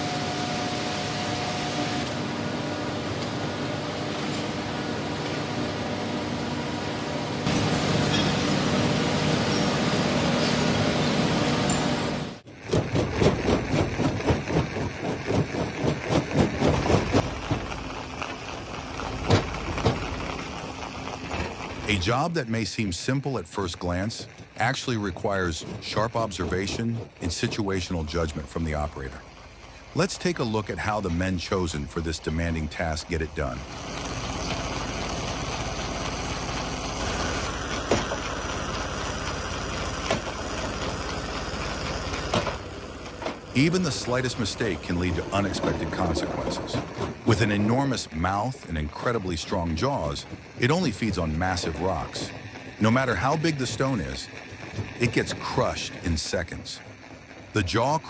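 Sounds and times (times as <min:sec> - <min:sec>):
engine chugging: 0:07.4 - 0:58.0.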